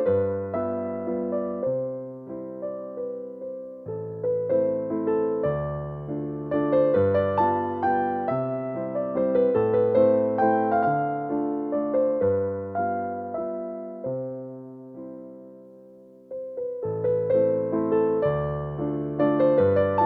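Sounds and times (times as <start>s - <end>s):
slow electric piano music: 0.0s - 20.0s.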